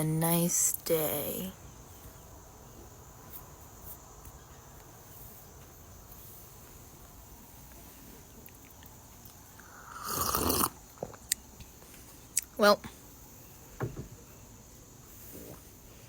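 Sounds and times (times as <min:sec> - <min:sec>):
faint high hiss: 0:00.0 - 0:16.0.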